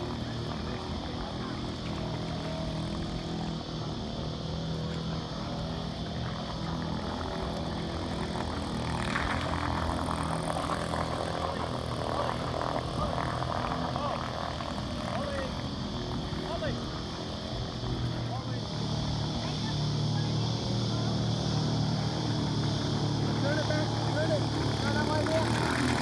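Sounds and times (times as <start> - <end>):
small boat engine droning: 0.0 - 26.0.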